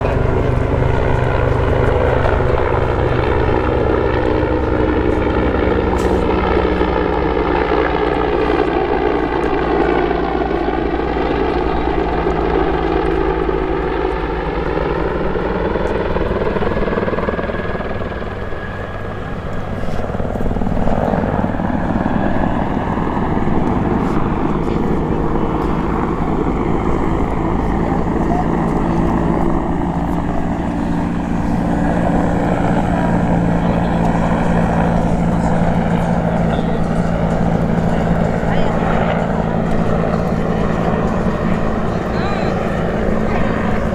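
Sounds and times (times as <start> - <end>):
helicopter rotor chop: 0.0 - 43.9
turbine whine: 0.0 - 43.9.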